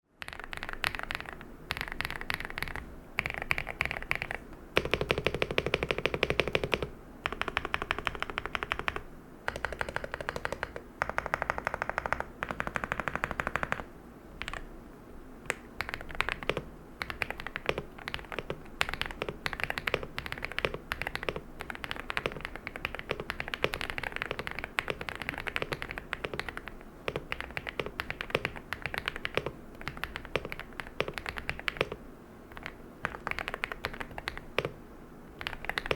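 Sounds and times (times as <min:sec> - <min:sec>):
mechanical keyboard typing: 0:00.2 - 0:14.6, 0:15.5 - 0:34.8, 0:35.4 - 0:35.9.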